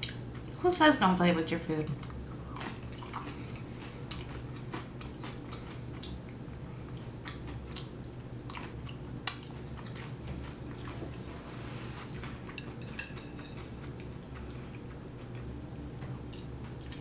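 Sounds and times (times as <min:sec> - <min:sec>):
person chewing crisp pizza crust: 0:02.0 - 0:17.0.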